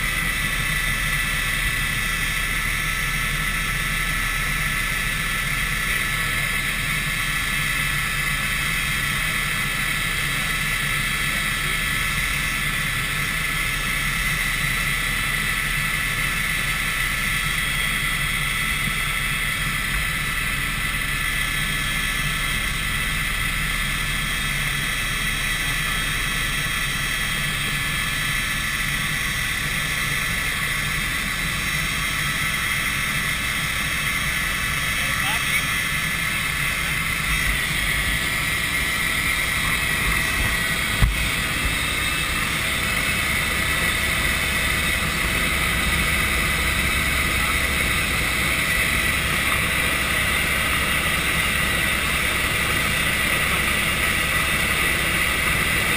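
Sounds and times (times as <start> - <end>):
helicopter cabin whine and drone: 0.0 - 55.9.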